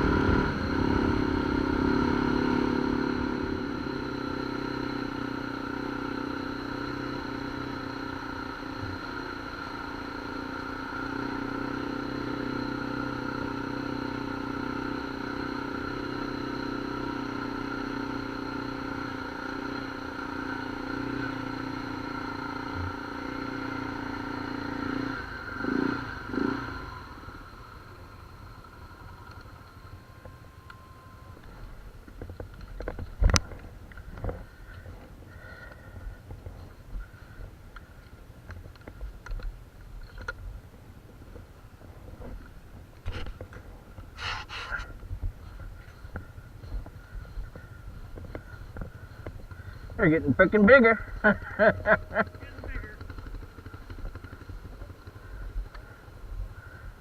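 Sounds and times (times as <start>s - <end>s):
small engine running: 0.0s - 39.4s, 43.1s - 57.0s.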